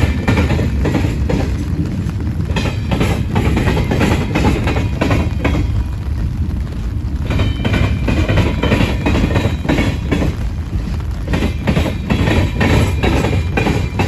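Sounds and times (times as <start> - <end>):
freight cars rumbling: 0.0 - 14.0
wheels clacking over rail joints: 0.0 - 14.0.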